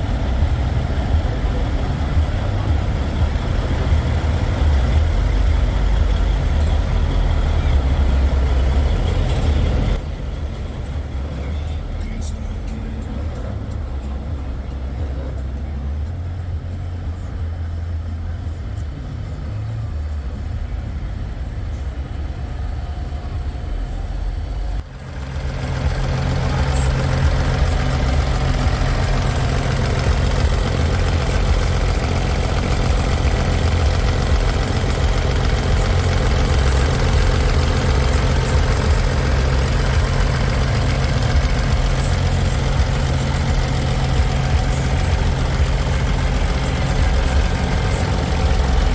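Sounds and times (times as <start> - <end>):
diesel truck engines idling: 0.0 - 48.9.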